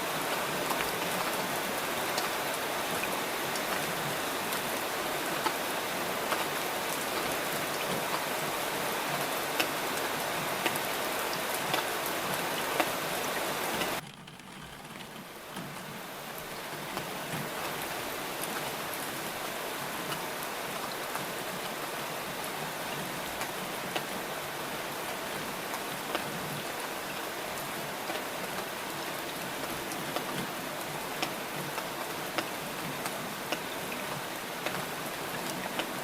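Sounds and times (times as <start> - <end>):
rain hissing: 0.1 - 36.0.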